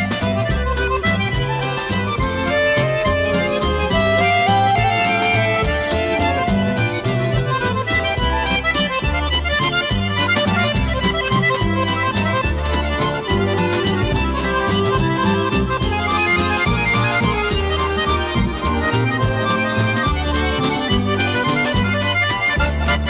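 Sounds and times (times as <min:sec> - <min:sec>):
upbeat accordion and fiddle tune: 0:00.0 - 0:23.0.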